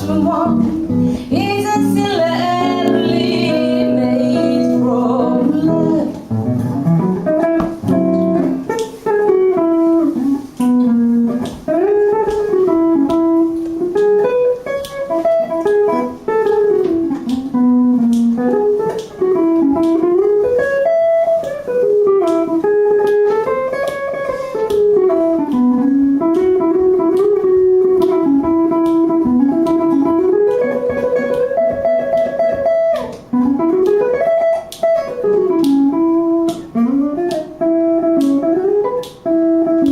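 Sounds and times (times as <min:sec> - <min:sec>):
electric guitar solo: 0:00.0 - 0:39.9.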